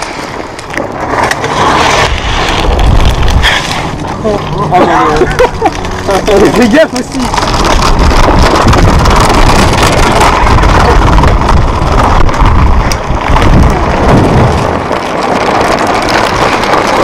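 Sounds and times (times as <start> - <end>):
hard wheels rolling over paving: 0.0 - 17.0
wind buffeting microphone: 1.9 - 17.0.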